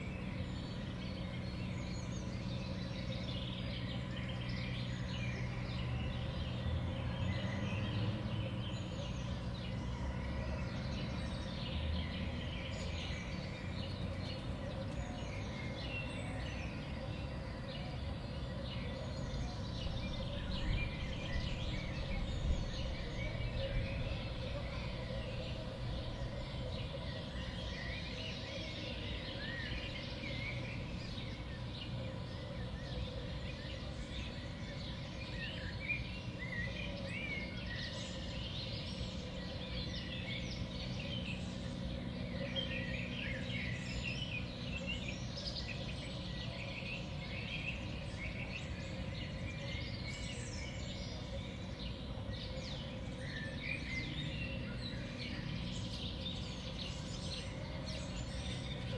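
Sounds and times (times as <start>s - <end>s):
songbirds chirping: 0.0s - 58.9s.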